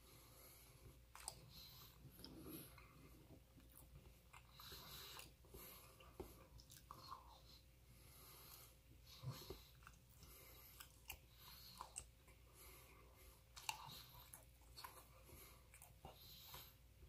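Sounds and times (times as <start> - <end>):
chewing sticky food: 0.9 - 7.7, 8.5 - 17.0.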